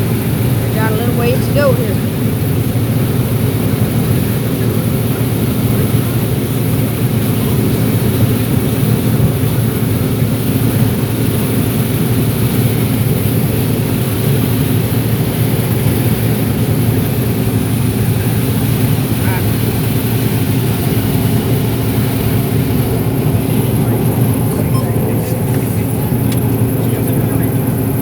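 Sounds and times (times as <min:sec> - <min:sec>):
combine harvester droning: 0:00.0 - 0:28.0.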